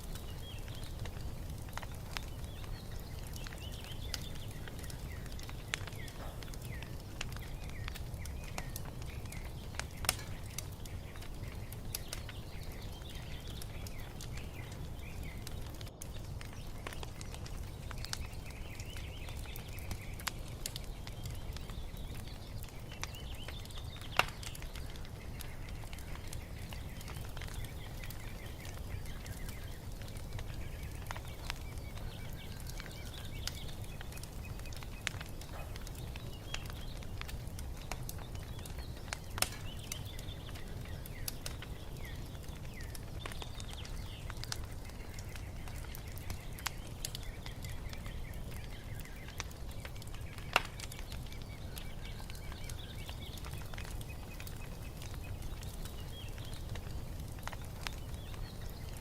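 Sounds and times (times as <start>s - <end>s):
birds chirping and singing: 0.0s - 59.0s
wood fire crackling and popping: 0.0s - 59.0s.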